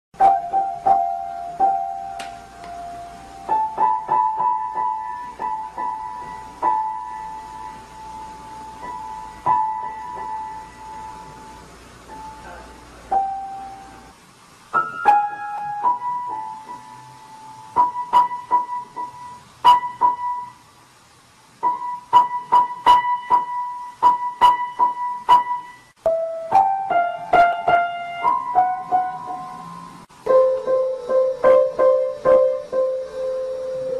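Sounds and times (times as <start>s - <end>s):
piano notes: 0.2s - 20.7s, 21.5s - 33.9s.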